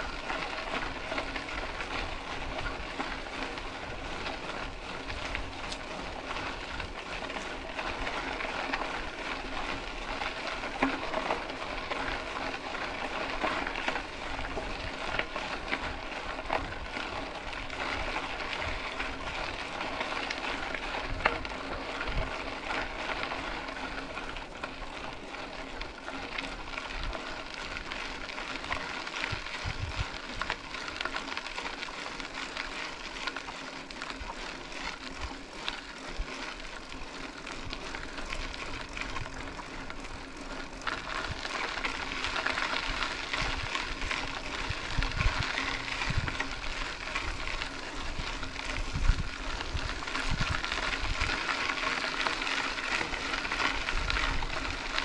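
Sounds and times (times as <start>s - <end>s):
bike tyres on gravel: 0.0s - 55.0s
small clicks and rattles: 0.0s - 55.0s.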